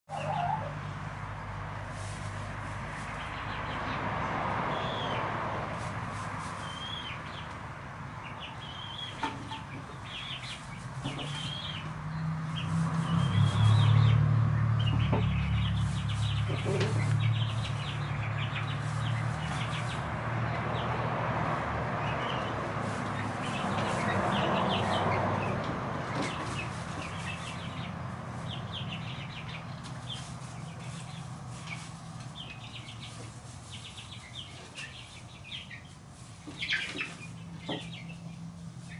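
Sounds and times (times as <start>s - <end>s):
chicks chirping and clucking: 0.0s - 38.9s.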